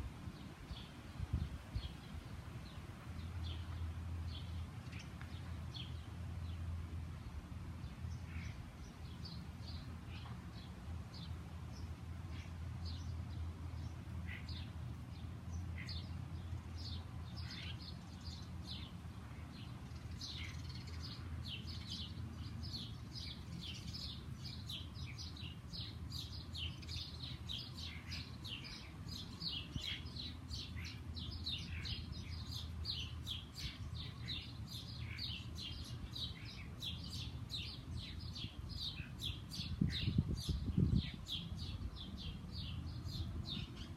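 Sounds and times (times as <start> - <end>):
small songbirds chirping: 0.0 - 43.9.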